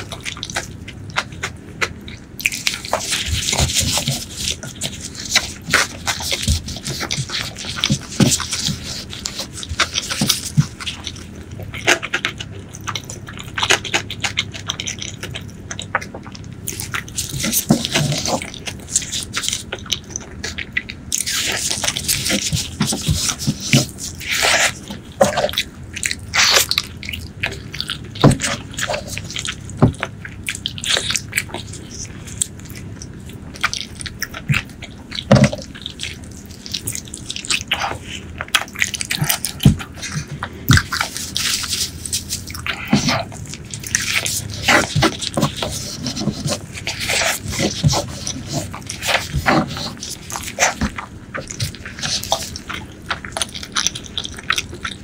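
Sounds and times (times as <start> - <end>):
squelching meat: 0.0 - 55.0
wet chewing and lip-smacking: 0.0 - 55.0.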